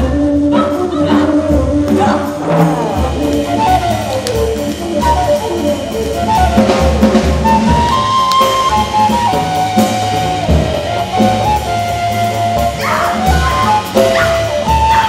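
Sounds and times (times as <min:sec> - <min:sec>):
drum kit: 0:00.0 - 0:15.0
wind instrument jazz melody: 0:00.0 - 0:15.0.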